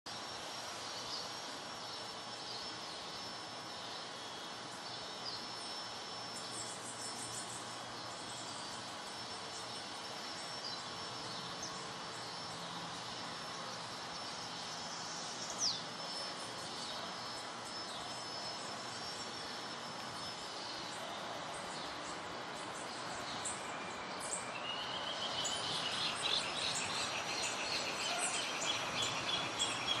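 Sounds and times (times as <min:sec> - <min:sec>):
high insect drone: 0:00.1 - 0:30.0
birds chirping: 0:05.3 - 0:30.0.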